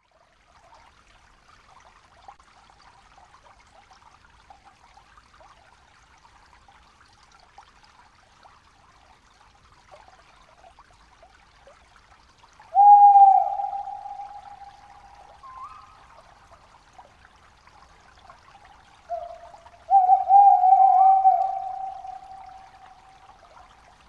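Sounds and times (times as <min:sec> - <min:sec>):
water-like trickling hiss: 0:00.0 - 0:24.0.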